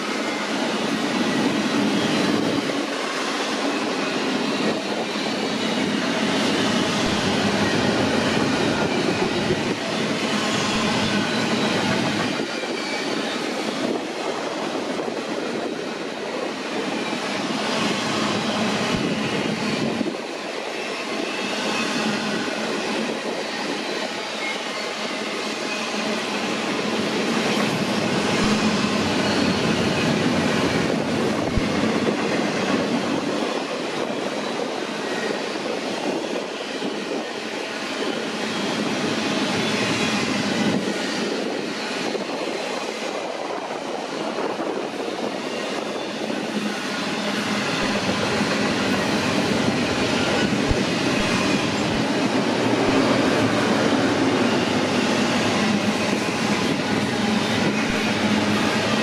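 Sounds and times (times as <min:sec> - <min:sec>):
train wheels on rail: 0:00.0 - 0:59.0.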